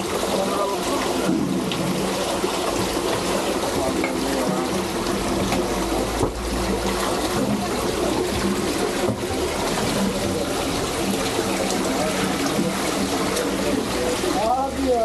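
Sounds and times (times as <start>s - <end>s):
water pouring into plastic bottle: 0.0s - 14.9s
water running from fountain spouts: 0.0s - 15.0s
water splashing onto tiled basin: 0.0s - 15.0s.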